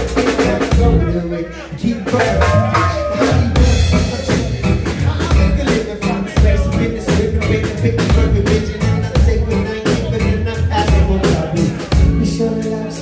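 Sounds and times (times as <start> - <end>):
drum kit beat: 0.0 - 13.0
electric bass: 0.0 - 13.0.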